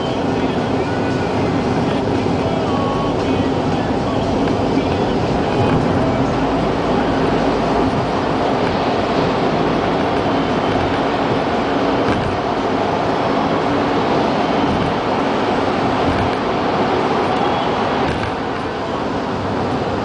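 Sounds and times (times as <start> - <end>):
car road and tyre noise in tunnel: 0.0 - 20.0.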